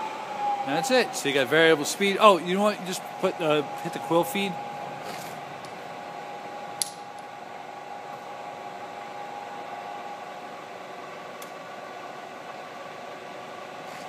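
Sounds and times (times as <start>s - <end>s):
milling machine humming and whining: 0.0s - 14.0s.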